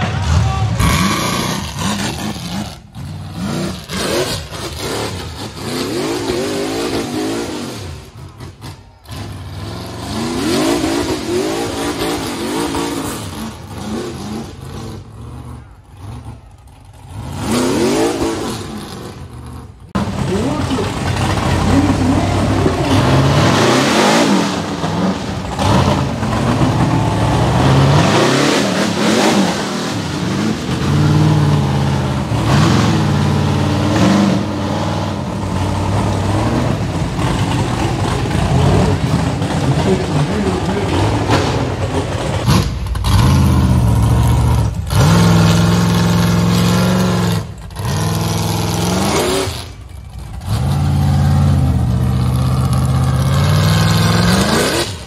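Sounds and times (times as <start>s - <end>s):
buggy engine revving hard: 0.0s - 55.0s.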